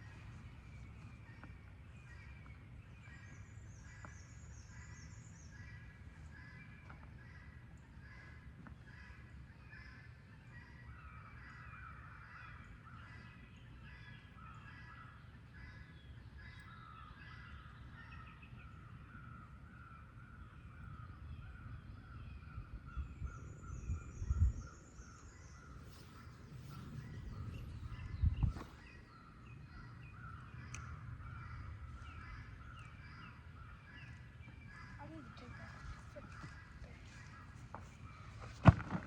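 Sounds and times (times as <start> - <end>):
birds calling: 0.0 - 39.0.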